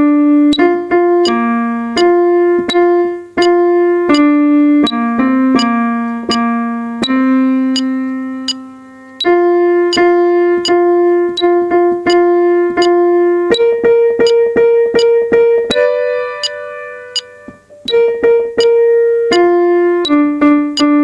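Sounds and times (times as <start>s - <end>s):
piano-toned keyboard melody: 0.0s - 21.0s.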